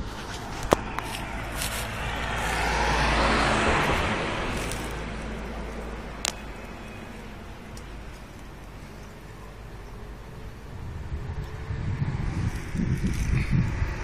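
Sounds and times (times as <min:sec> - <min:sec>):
road vehicle passing: 0:00.0 - 0:14.0.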